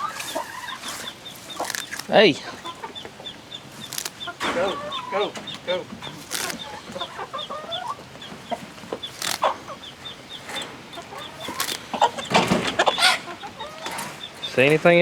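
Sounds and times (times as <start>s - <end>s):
hens clucking and cackling: 0.0s - 15.0s.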